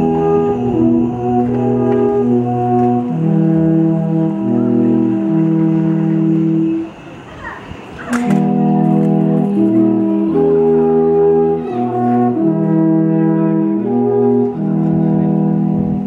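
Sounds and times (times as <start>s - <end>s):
alphorns playing chords: 0.0s - 7.2s, 8.2s - 16.0s.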